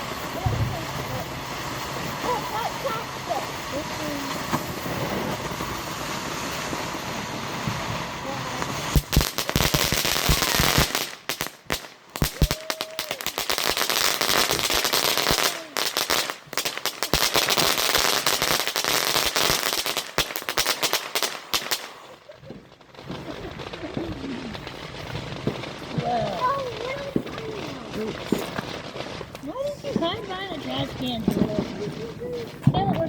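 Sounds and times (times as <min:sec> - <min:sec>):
firecracker bangs: 0:00.0 - 0:33.0
firework hissing: 0:00.0 - 0:33.0.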